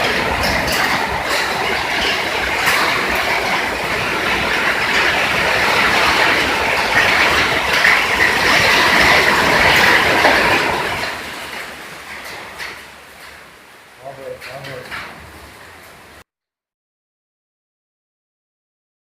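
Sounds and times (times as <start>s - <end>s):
heavy rain: 0.0s - 16.2s
wind: 0.0s - 16.2s.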